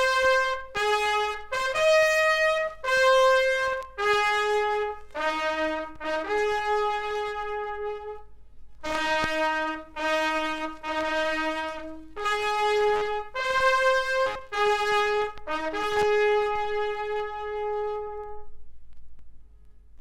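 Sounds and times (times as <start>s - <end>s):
bugle call: 0.0s - 8.2s, 8.8s - 18.4s.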